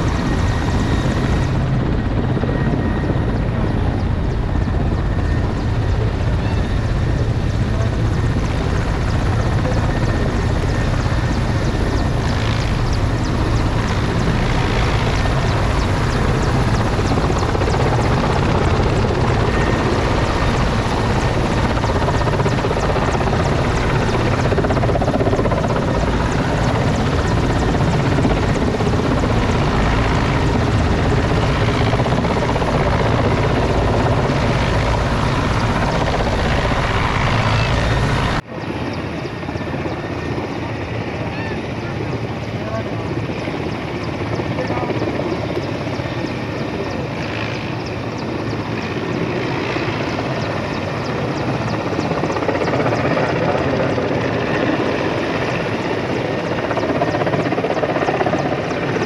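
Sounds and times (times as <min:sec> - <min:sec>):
helicopter rotor chop: 0:00.0 - 0:59.0.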